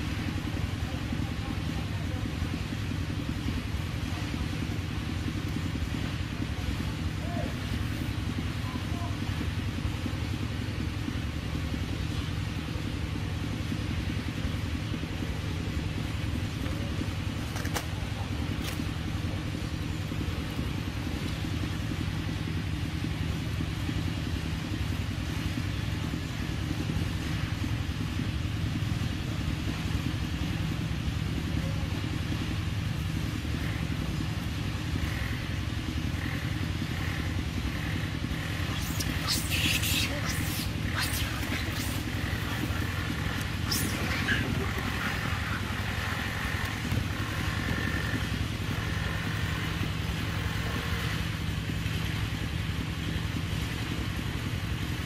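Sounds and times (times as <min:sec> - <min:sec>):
low motor drone: 0:00.0 - 0:55.0.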